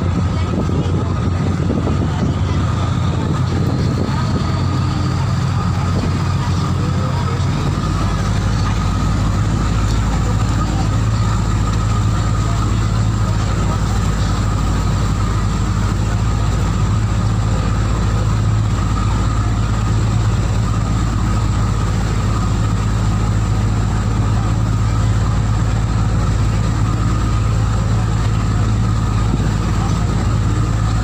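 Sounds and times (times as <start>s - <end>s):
boat engine droning: 0.0s - 31.0s
water rushing past hull: 0.0s - 31.0s.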